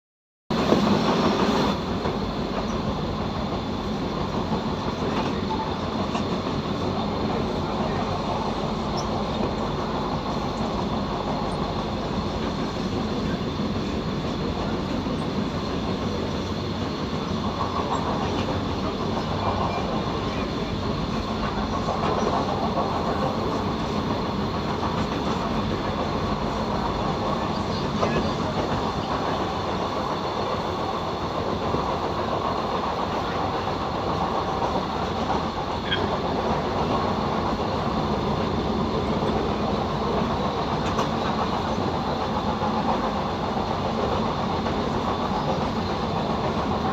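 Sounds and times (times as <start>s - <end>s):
train rumbling on rails: 0.5s - 46.9s.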